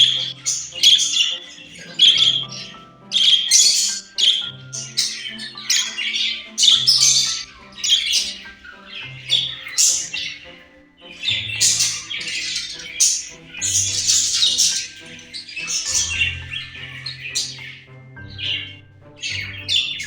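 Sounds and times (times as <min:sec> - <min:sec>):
budgie chattering and squawking: 0:00.0 - 0:10.6, 0:11.2 - 0:18.7
soft background music: 0:00.0 - 0:20.0.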